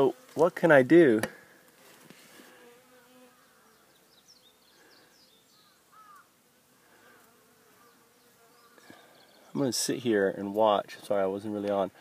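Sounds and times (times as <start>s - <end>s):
bees buzzing: 0.0s - 10.2s.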